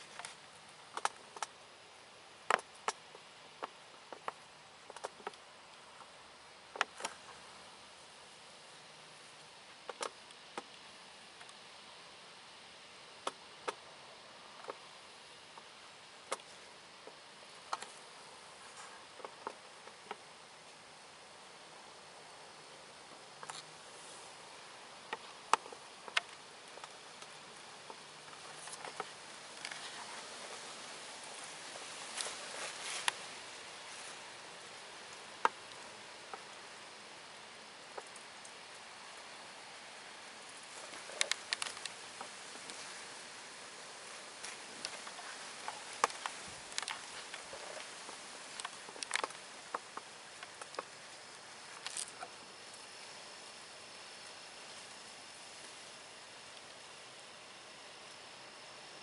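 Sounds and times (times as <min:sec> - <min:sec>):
wind hiss: 0:00.0 - 0:59.0.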